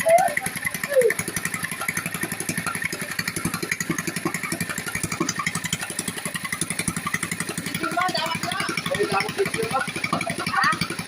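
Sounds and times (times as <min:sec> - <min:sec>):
gasoline engine idling: 0:00.0 - 0:11.0.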